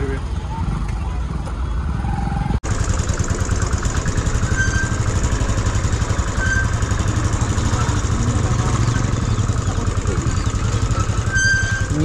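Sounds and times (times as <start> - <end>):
motorcycle engine running: 0.2 - 12.0.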